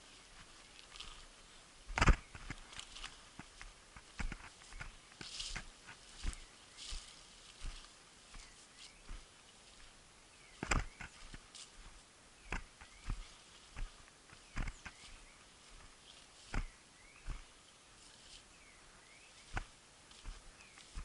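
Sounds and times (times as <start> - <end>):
footsteps crunching dry leaves: 0.0 - 21.0.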